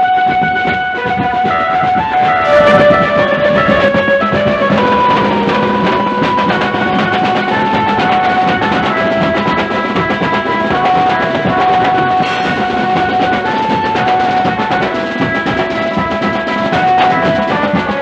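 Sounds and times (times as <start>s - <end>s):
fast loud drumming and cymbals: 0.0s - 18.0s
melody of held notes: 0.0s - 18.0s.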